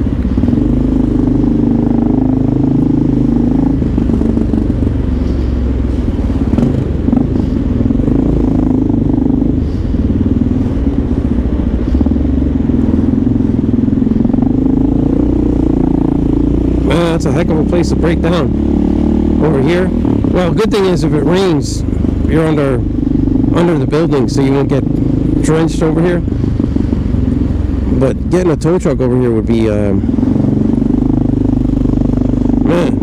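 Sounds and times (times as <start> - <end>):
motorcycle engine running: 0.0 - 33.0
road noise: 0.0 - 33.0.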